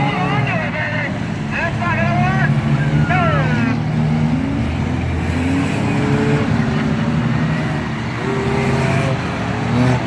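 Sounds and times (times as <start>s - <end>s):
race car engines circling a track: 0.0s - 10.0s.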